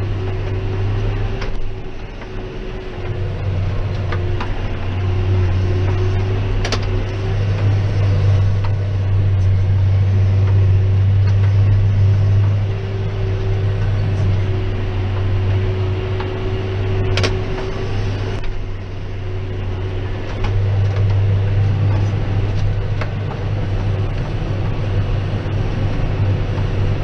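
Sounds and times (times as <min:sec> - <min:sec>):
tractor engine drone: 0:00.0 - 0:27.0.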